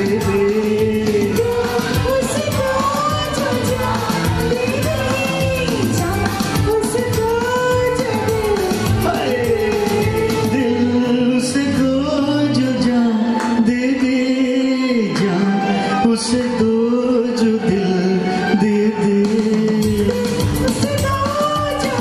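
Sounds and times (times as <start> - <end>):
karaoke backing track: 0.0 - 22.0
man singing into microphone: 0.0 - 22.0.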